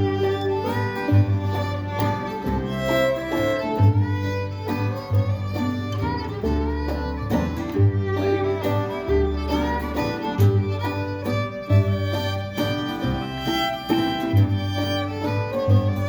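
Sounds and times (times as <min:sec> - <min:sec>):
fiddle melody: 0:00.0 - 0:16.0
low bass line: 0:00.0 - 0:16.0
strummed guitar: 0:00.0 - 0:16.0.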